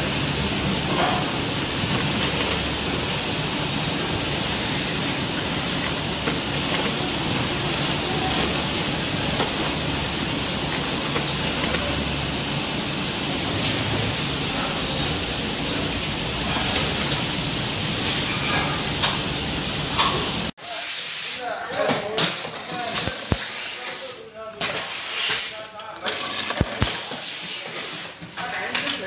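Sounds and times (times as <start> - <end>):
machines whirring: 0.0 - 20.7, 21.4 - 29.0.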